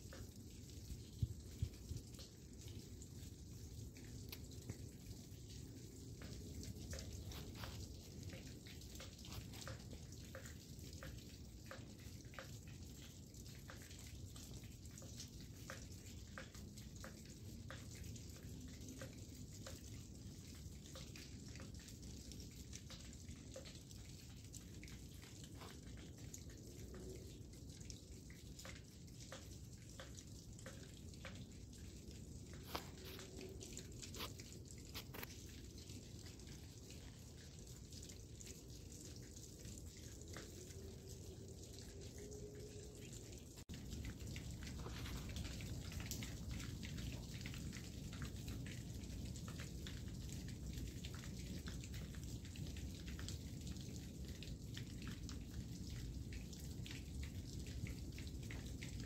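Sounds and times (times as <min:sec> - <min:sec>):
meltwater dripping: 0:00.0 - 0:59.0.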